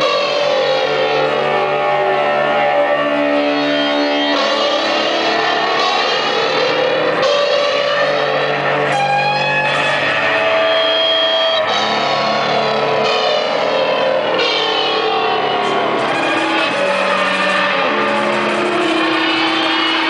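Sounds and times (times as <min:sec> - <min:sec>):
electric guitar bending notes: 0:00.0 - 0:20.0.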